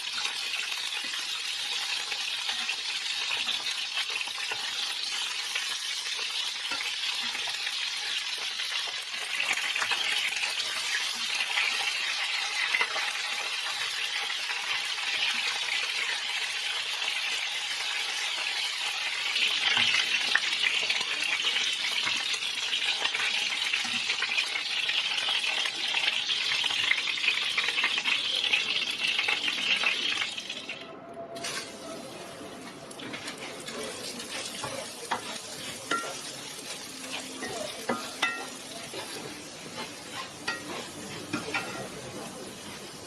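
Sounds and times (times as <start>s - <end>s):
food sizzling in oil: 0.0s - 43.0s.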